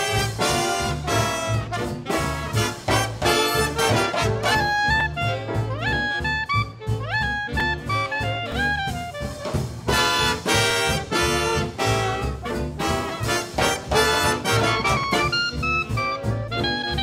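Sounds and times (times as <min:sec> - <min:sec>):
brass section hitting short chords: 0:00.0 - 0:16.9.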